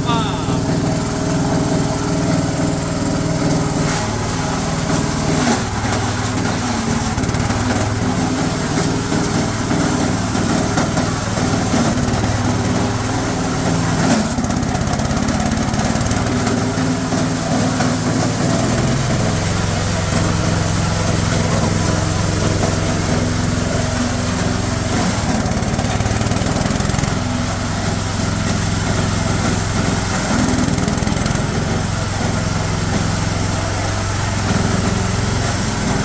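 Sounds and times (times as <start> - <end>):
chopper grinder shredding fronds: 0.0 - 36.0.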